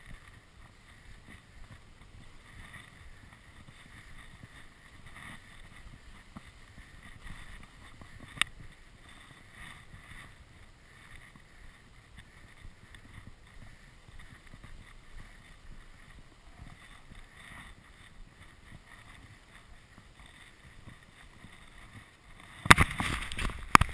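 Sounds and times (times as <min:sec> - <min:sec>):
skis swishing through snow: 0:00.0 - 0:23.9.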